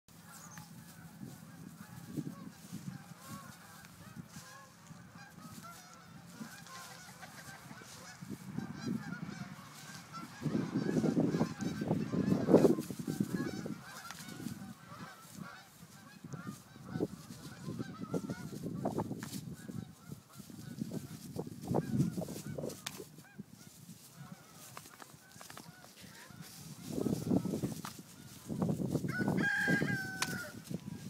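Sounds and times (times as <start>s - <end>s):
geese honking: 0.1s - 31.0s
goats rustling in dry leaves: 0.1s - 31.0s.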